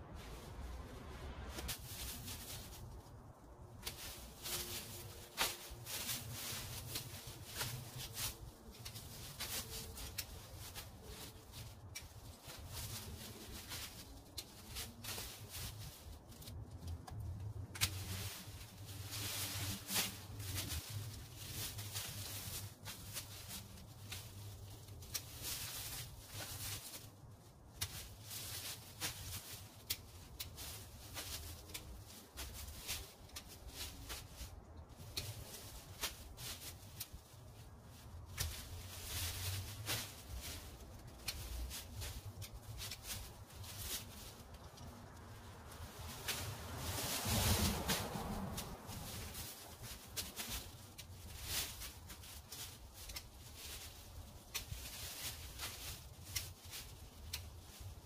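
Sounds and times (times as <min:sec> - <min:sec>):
shrub leaves rustling and snapping: 0:00.2 - 0:58.0.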